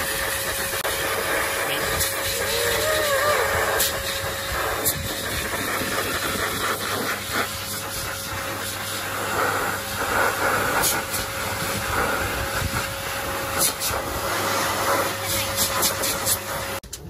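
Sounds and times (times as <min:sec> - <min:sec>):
pet dryer blowing air: 0:00.0 - 0:17.0.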